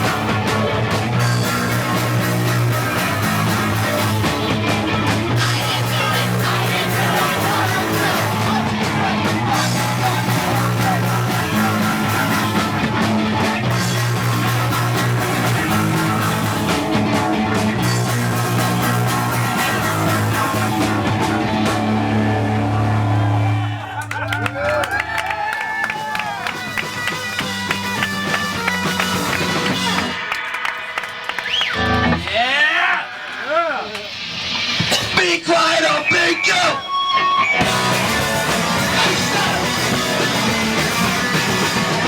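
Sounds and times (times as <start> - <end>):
distorted electric guitar: 0.0 - 24.4, 26.0 - 42.0
bass guitar: 0.0 - 32.8, 34.4 - 42.0
drums: 0.0 - 42.0.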